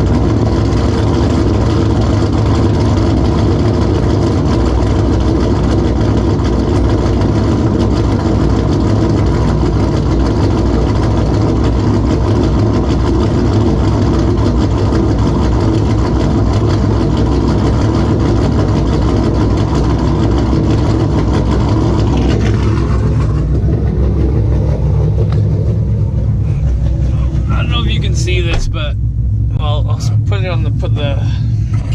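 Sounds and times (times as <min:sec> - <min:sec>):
vee eight engine idling: 0:00.0 - 0:31.9.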